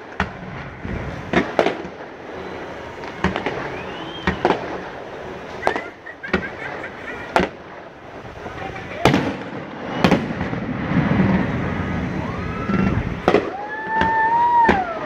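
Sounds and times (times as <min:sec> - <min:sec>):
firework bangs: 0:00.0 - 0:15.0
firework whistle: 0:00.0 - 0:15.0.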